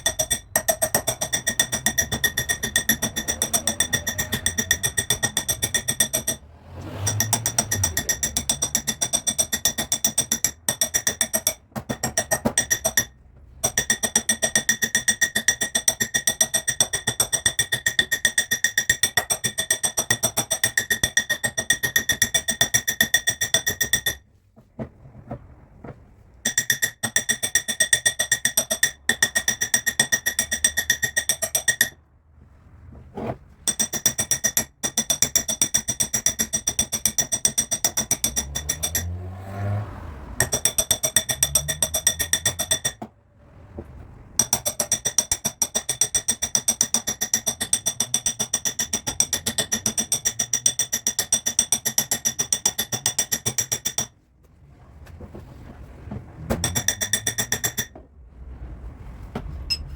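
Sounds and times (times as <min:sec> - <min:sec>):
hammer tapping sheet metal: 0:00.0 - 0:24.2, 0:26.4 - 0:32.0, 0:33.6 - 0:39.8, 0:40.4 - 0:43.1, 0:44.4 - 0:54.2, 0:56.3 - 0:58.0.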